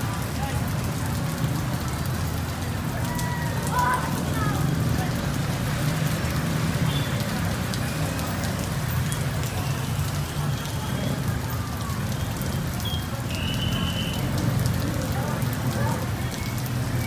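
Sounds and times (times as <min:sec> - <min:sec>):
heavy rain on a wet street: 0:00.0 - 0:17.0.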